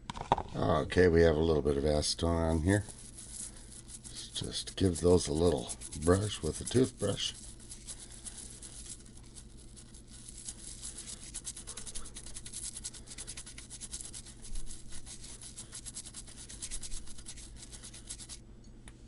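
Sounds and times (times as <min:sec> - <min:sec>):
toothbrush scrubbing circuit board: 0:02.2 - 0:18.4.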